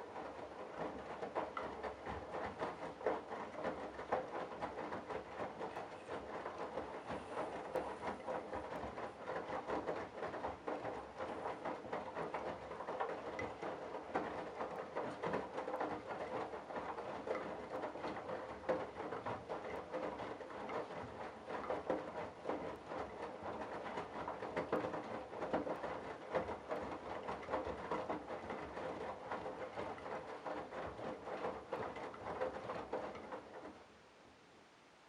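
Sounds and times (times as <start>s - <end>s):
washing machine churning: 0.0s - 33.8s.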